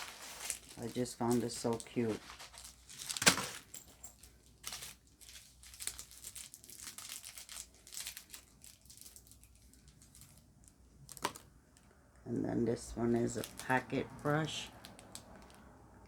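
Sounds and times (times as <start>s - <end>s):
packaging crinkling and rustling: 0.0s - 11.9s, 12.9s - 15.8s.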